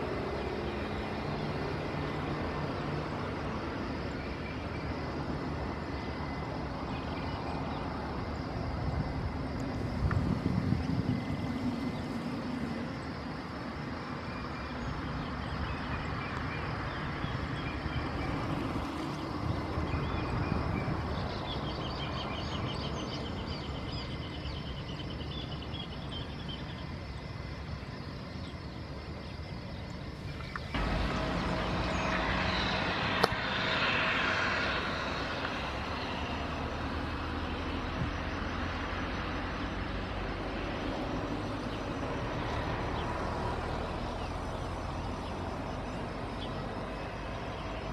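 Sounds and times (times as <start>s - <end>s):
jet engines droning: 0.0s - 47.9s.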